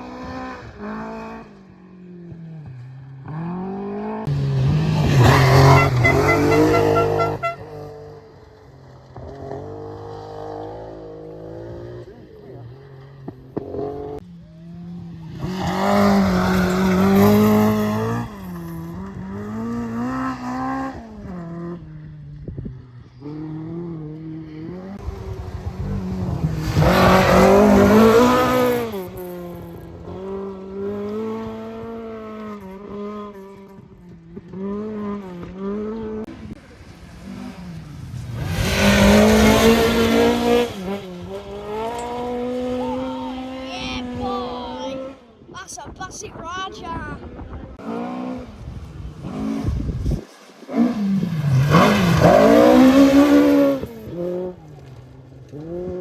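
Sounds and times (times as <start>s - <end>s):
rally car engines at full throttle: 0.0s - 56.0s.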